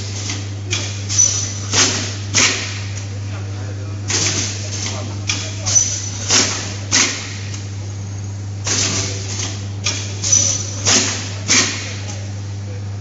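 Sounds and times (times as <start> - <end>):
machine low hum: 0.0 - 13.0.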